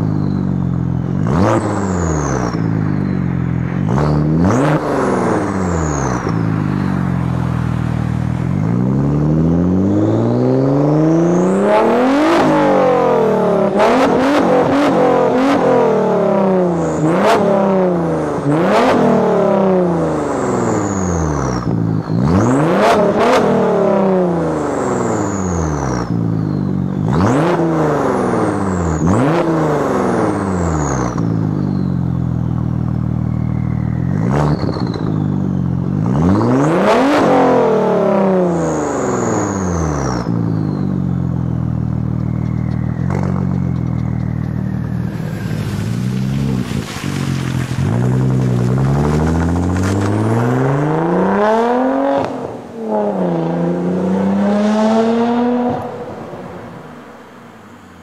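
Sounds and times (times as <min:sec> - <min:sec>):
car engine idling and revving: 0:00.0 - 0:58.0
car pulling away: 0:00.0 - 0:58.0.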